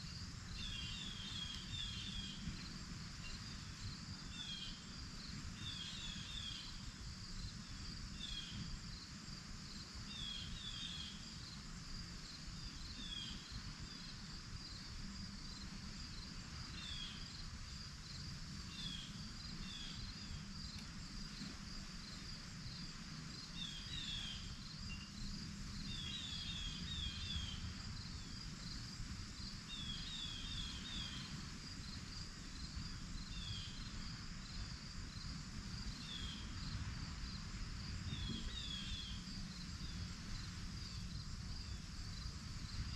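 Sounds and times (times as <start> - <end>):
crickets trilling: 0.0 - 42.9.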